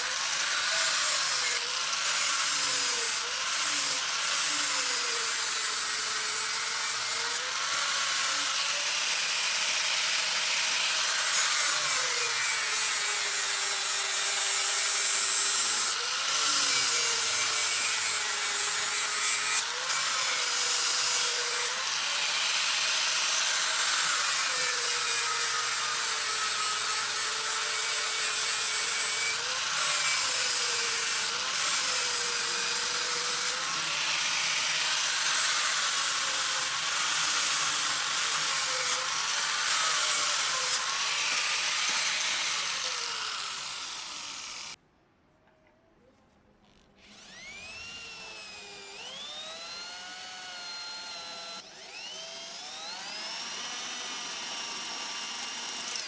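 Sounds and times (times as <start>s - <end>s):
electric grinder grinding steel: 0.0s - 44.8s, 47.0s - 56.0s.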